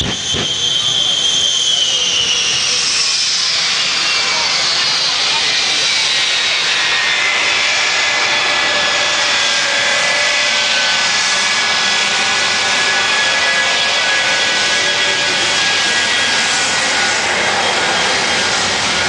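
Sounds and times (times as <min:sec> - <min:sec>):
high whine: 0:00.0 - 0:19.0
jet engines roaring: 0:00.0 - 0:19.0.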